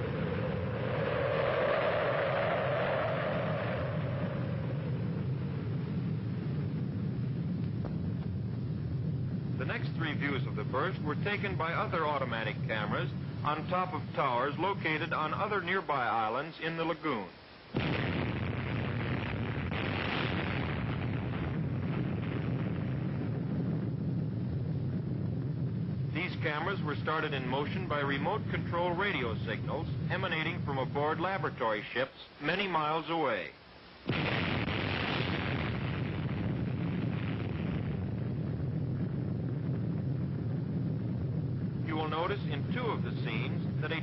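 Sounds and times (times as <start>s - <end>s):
explosion rumbling roar: 0.0s - 15.4s, 17.8s - 31.0s, 34.1s - 44.0s.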